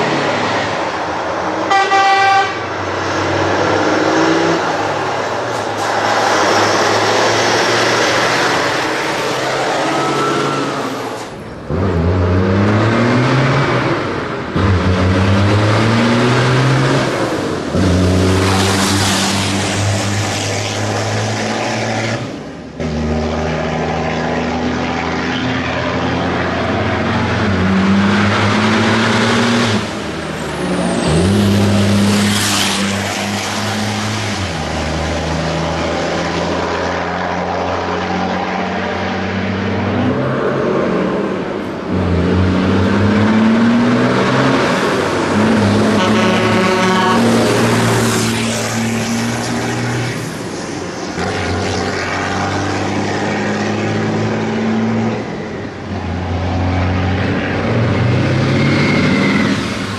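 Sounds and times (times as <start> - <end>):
truck diesel engine accelerating: 0.0 - 59.9.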